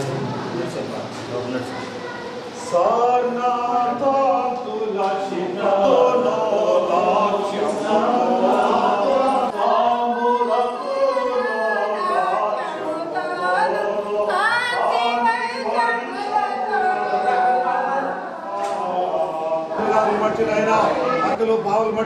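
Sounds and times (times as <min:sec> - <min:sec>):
group singing without instruments: 0:02.6 - 0:22.0.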